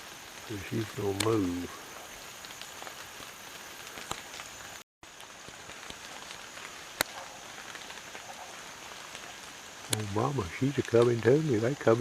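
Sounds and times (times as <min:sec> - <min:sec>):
light rain pattering: 0:00.0 - 0:12.0
raindrops ticking: 0:00.0 - 0:12.0.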